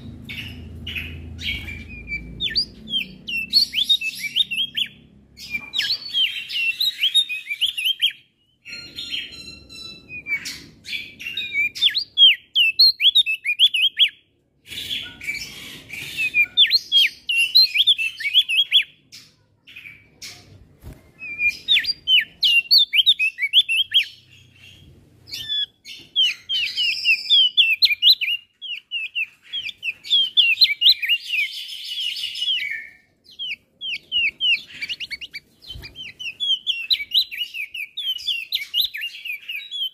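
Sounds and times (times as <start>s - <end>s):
bird singing high chirps: 0.0s - 20.4s, 21.1s - 39.9s.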